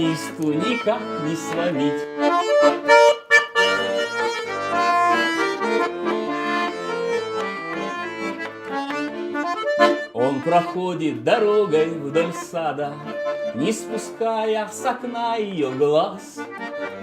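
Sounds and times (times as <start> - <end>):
button accordion melody: 0.0 - 17.0.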